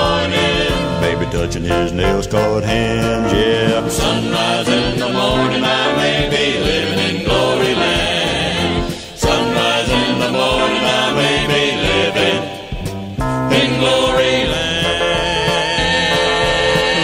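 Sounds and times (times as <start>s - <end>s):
vocal group singing in harmony: 0.0s - 17.0s.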